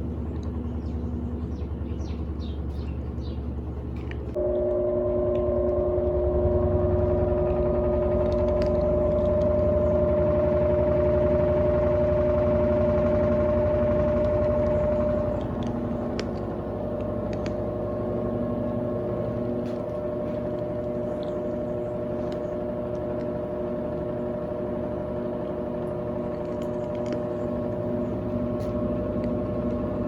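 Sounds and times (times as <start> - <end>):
motor whine: 0.0 - 30.0
washing machine low hum: 0.0 - 30.0.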